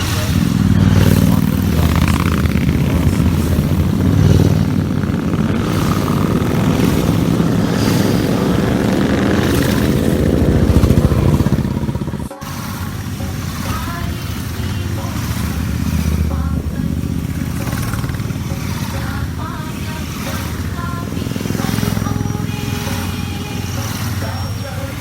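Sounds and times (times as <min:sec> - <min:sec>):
motorcycle engines running: 0:00.0 - 0:25.0.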